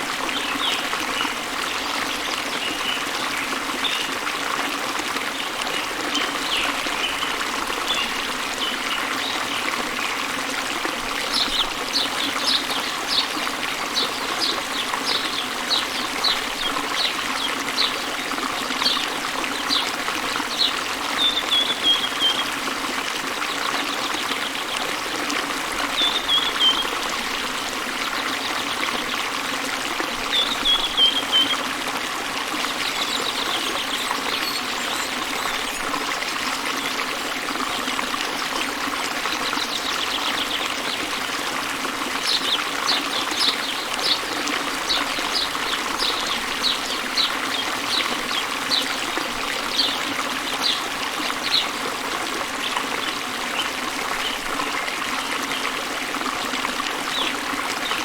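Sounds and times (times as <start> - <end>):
waterfall: 0.0 - 58.0.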